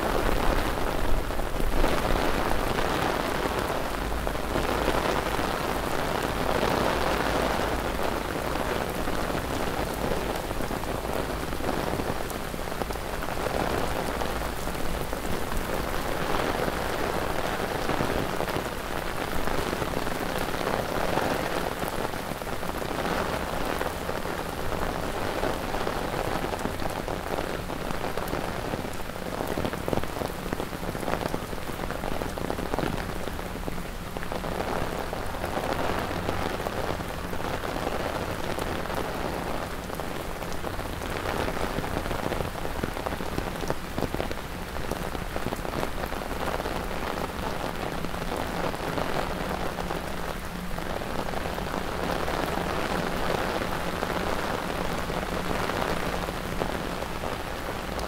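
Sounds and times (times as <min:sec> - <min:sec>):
heavy rain on pavement: 0:00.0 - 0:58.0.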